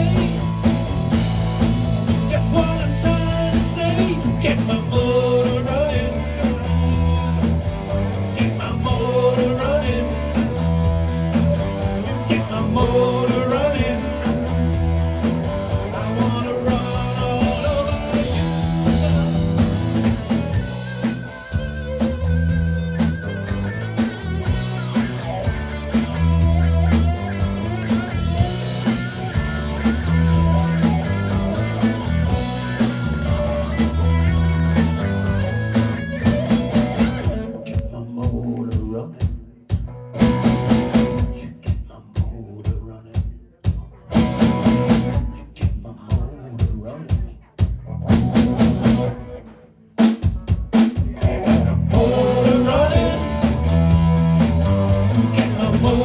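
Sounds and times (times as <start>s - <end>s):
electric guitar: 0.0s - 38.4s, 39.7s - 41.6s, 43.8s - 45.5s, 47.6s - 50.0s, 50.7s - 56.0s
bass line: 0.0s - 42.4s, 43.7s - 49.6s, 50.3s - 56.0s
drums: 0.0s - 56.0s.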